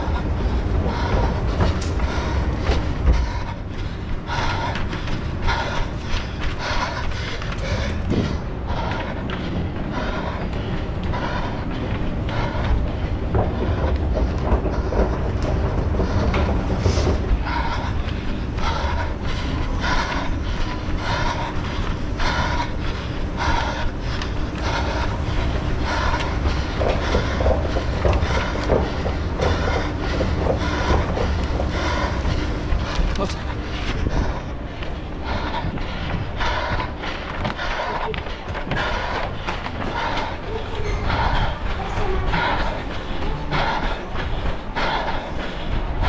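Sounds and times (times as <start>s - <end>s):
hard breathing: 0.0s - 46.0s
running footsteps: 0.0s - 46.0s.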